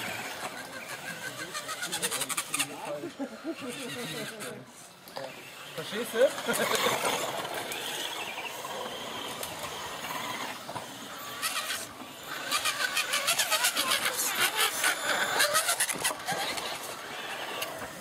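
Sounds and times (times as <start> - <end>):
fast rattling clatter: 0.0 - 2.9, 6.3 - 18.0
toy truck motor whining: 0.0 - 18.0.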